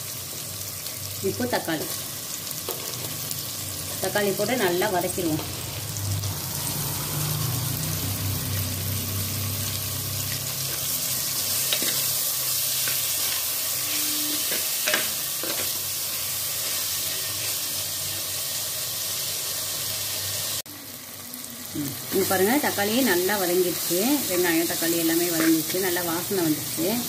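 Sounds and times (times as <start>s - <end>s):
vegetables sizzling in hot oil: 0.0s - 27.0s.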